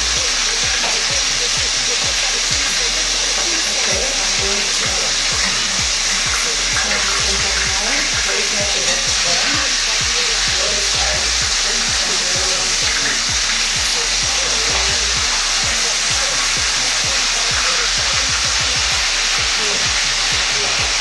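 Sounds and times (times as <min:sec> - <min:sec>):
continuous broad hiss: 0:00.0 - 0:21.0
music with kick-drum beat: 0:00.0 - 0:21.0.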